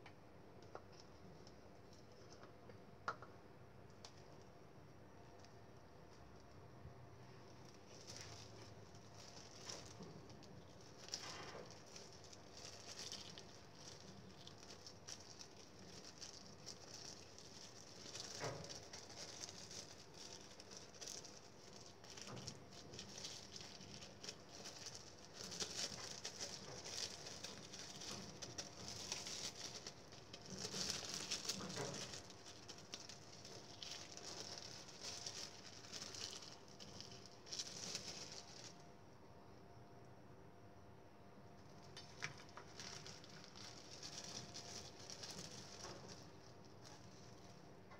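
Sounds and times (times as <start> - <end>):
plastic bag crinkling: 5.2 - 38.9, 41.6 - 47.7.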